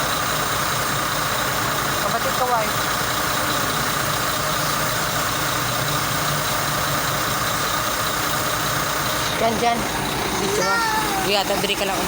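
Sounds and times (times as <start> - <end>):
backhoe engine idling: 0.0 - 12.0.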